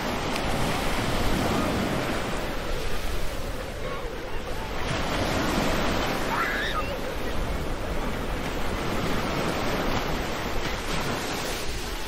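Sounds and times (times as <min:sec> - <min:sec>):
ocean surf breaking on beach: 0:00.0 - 0:12.0
wind rumbling on microphone: 0:00.0 - 0:12.0.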